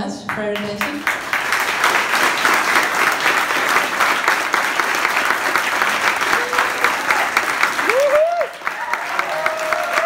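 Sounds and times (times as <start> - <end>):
audience applauding: 0.3 - 10.0.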